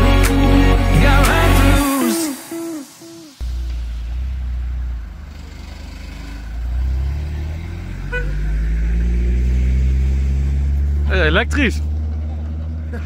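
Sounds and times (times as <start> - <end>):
off-road vehicles driving past: 1.1 - 13.0.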